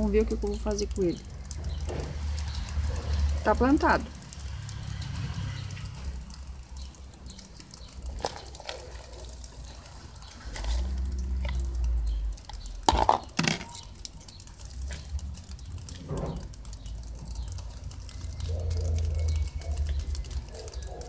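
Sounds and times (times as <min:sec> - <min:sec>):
drizzle pattering: 0:00.0 - 0:21.0
water drips ticking: 0:00.0 - 0:21.0.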